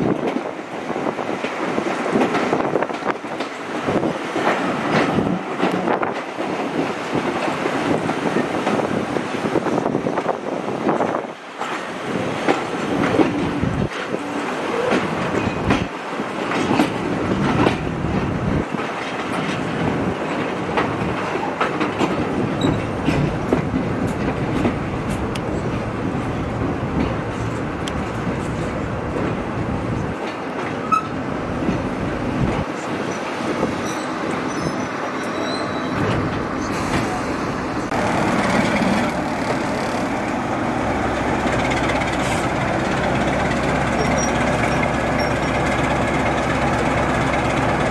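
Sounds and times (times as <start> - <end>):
train rumbling on rails: 0.0 - 47.9
wheels clicking over rail joints: 0.0 - 47.9.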